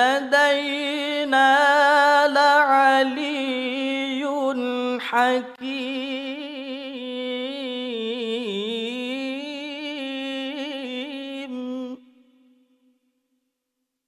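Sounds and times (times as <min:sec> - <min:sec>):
man chanting recitation: 0:00.0 - 0:12.1.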